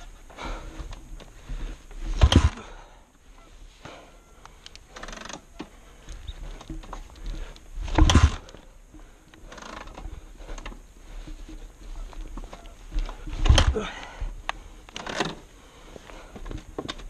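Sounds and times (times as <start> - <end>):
clicks and rustling of riding gear: 0.0 - 17.0.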